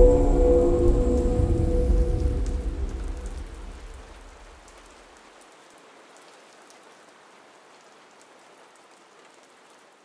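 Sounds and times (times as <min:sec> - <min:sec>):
faint steady rain: 0:00.0 - 0:10.0.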